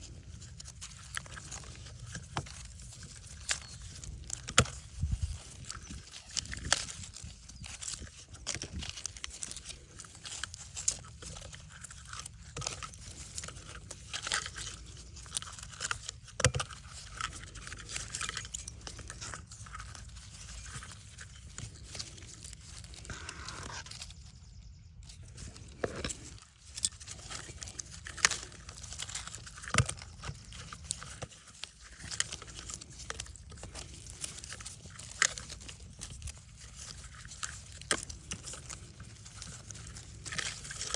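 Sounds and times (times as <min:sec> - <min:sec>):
hands handling small materials: 0:00.0 - 0:40.9.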